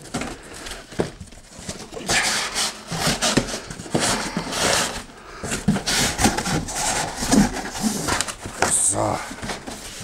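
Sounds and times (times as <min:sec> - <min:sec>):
cardboard rubbing and scraping: 0:00.8 - 0:10.0.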